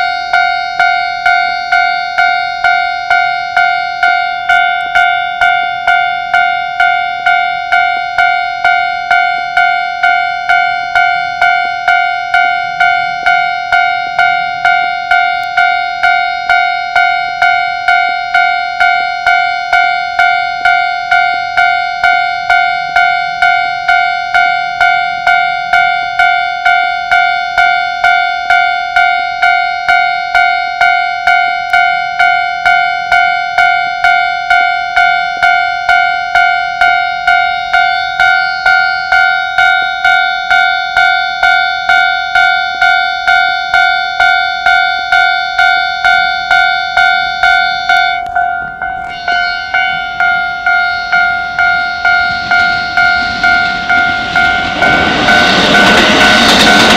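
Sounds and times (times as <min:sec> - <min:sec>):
level crossing warning bell: 0:00.0 - 0:56.9.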